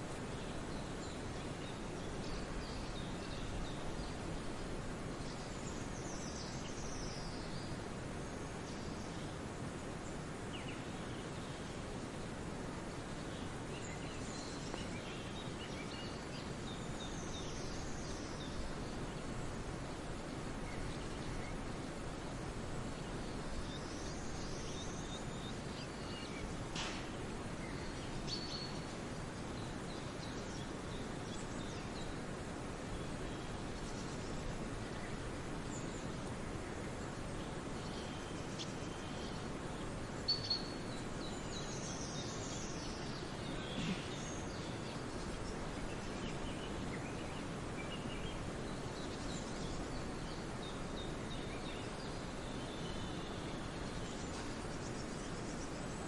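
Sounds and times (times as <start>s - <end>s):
forest birds singing: 0.0s - 56.0s
steady background hiss: 0.0s - 56.0s.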